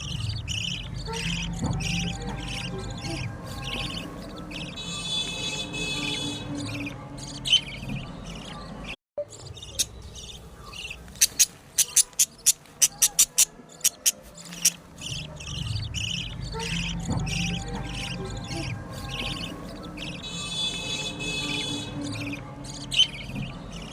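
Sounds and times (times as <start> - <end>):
budgerigars chirping and chattering: 0.0 - 23.9.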